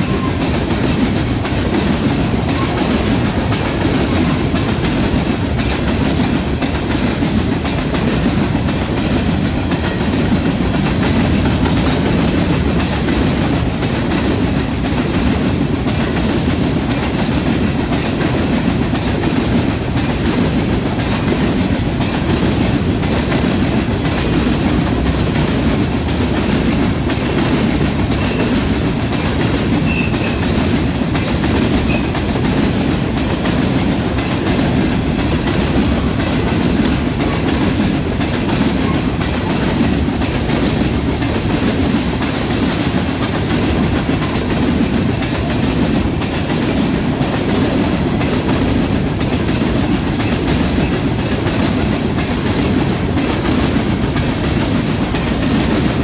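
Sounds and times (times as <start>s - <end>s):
freight train wheels rumbling: 0.0s - 56.0s
wheels clicking over rail joints: 0.0s - 56.0s.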